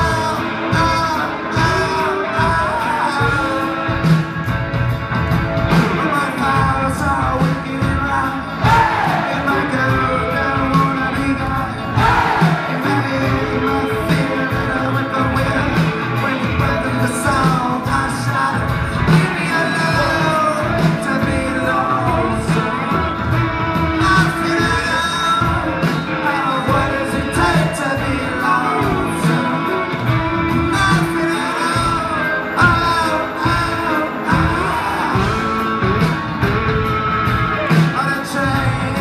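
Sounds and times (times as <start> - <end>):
lead singer singing: 0.0 - 4.6, 5.6 - 39.0
electric guitars: 0.0 - 39.0
indie rock band playing live: 0.0 - 39.0.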